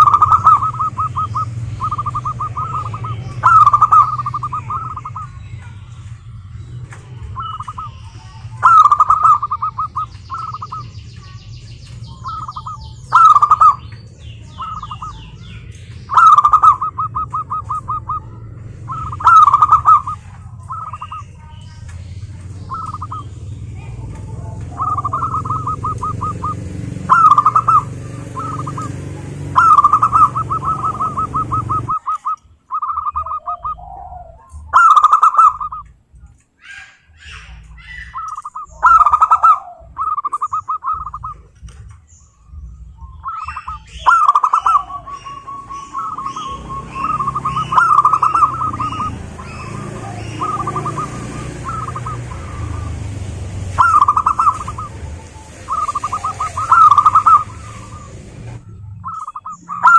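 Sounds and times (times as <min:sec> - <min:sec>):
doves cooing: 0:00.0 - 0:36.0, 0:36.6 - 0:59.9.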